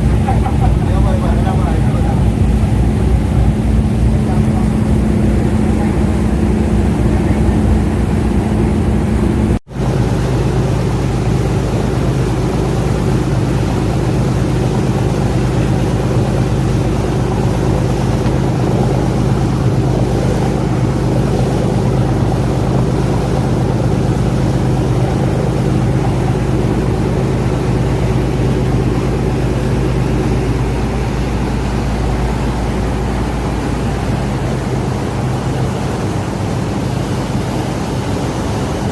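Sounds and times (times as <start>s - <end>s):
ferry engines droning: 0.0s - 38.9s
rushing water: 0.0s - 38.9s.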